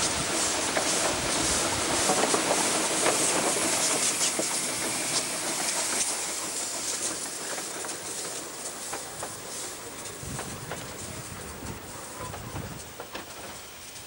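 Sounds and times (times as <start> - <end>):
steam hissing: 0.0 - 14.0
wheels clicking on rails: 0.0 - 14.0.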